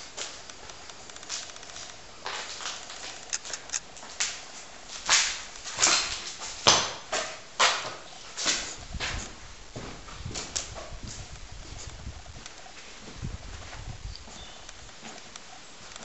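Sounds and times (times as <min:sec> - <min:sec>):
footsteps crunching over rubble: 0:00.0 - 0:06.8, 0:07.6 - 0:16.0.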